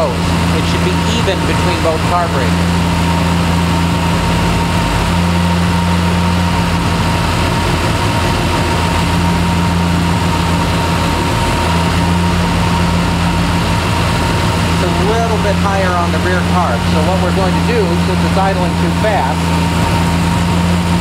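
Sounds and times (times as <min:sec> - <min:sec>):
car engine idling: 0:00.0 - 0:21.0
steady high tone: 0:04.0 - 0:21.0.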